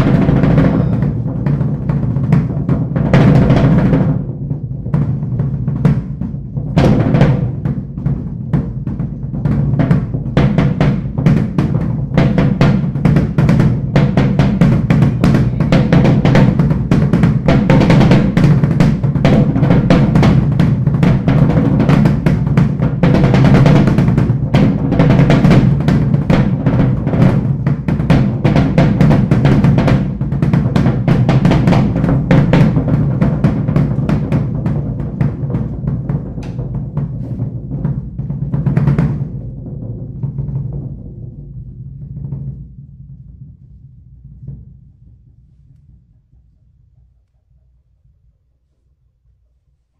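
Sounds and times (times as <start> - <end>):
fast drumming on drum kit: 0.0 - 43.5.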